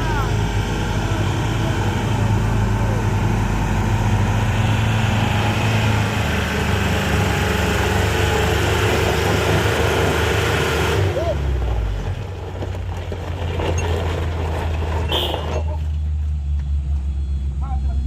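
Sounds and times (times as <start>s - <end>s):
truck engines droning: 0.0s - 18.0s.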